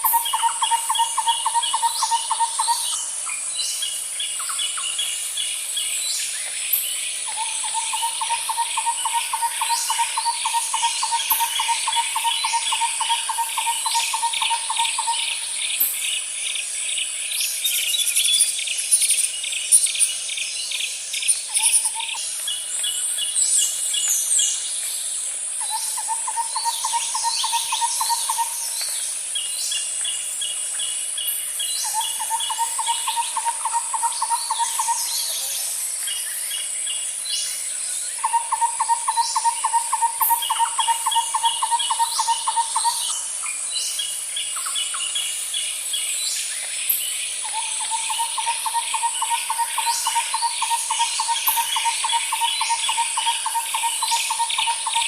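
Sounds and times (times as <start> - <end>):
birds chirping and calling: 0.0 - 55.0
high insect drone: 0.0 - 55.0.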